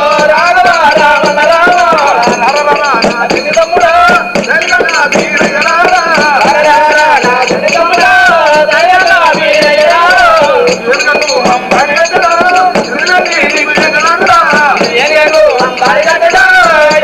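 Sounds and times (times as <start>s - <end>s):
rattling hand percussion: 0.0s - 17.0s.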